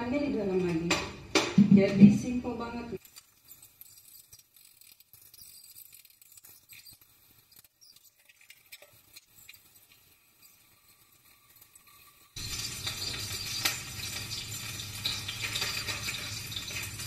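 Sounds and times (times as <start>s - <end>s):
food sizzling in a frying pan: 3.0s - 17.0s.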